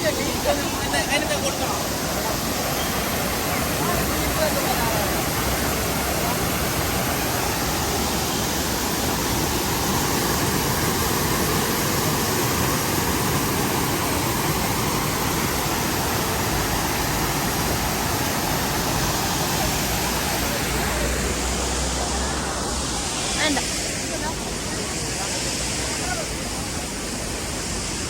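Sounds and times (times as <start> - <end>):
waterfall pouring: 0.0 - 28.0.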